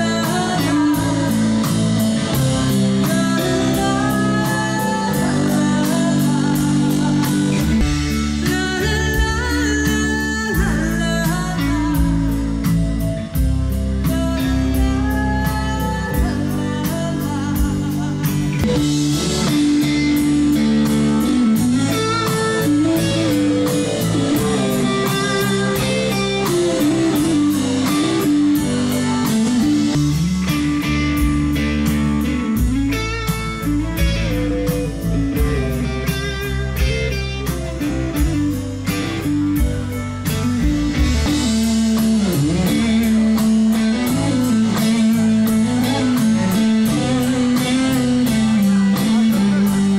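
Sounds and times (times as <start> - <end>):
bass guitar: 0.0 - 49.9
distorted electric guitar: 0.0 - 49.9
tinny drums: 0.0 - 49.9.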